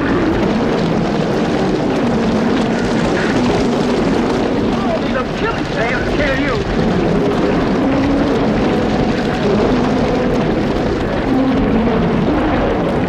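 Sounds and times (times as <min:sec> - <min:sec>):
lions growling: 0:00.0 - 0:13.0.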